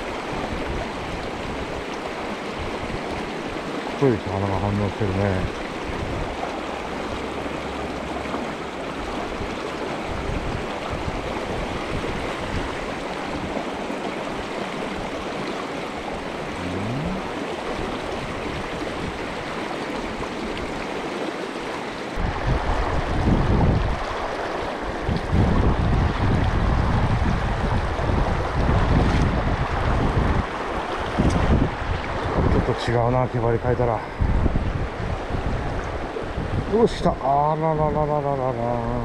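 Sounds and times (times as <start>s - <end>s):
wind buffeting microphone: 0.0s - 15.4s, 22.2s - 38.0s
stream water rushing: 0.0s - 39.0s.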